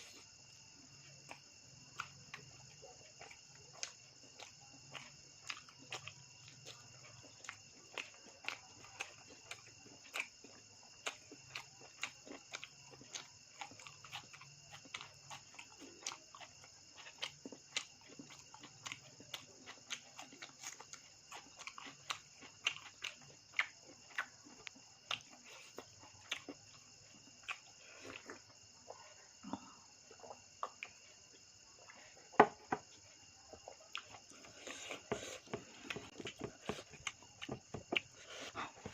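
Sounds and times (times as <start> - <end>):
crickets chirring: 0.0 - 38.9
wet chewing mouth sounds: 0.0 - 38.9.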